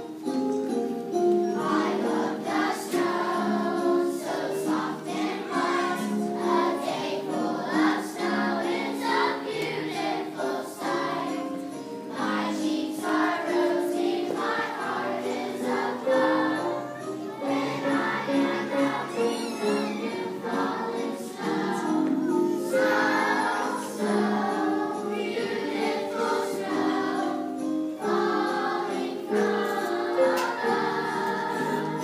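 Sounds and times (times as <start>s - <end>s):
children's choir singing: 0.0s - 32.0s.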